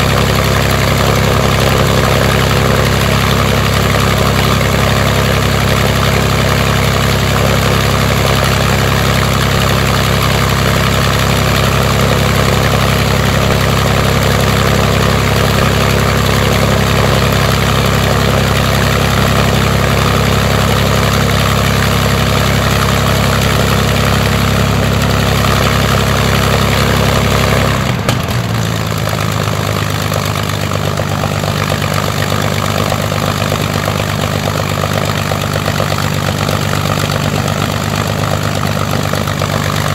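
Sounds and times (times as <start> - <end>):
aircraft piston engine running: 0.0 - 39.9.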